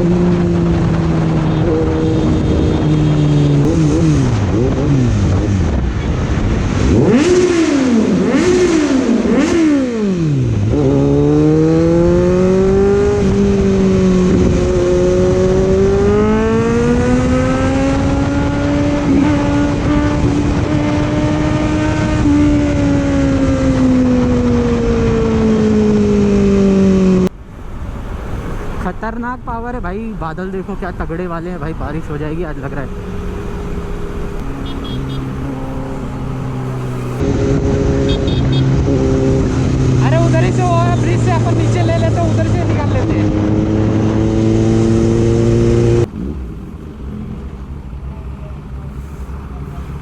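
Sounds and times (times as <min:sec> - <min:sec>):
motorcycle engine accelerating: 0:00.0 - 0:28.8, 0:31.6 - 0:50.0.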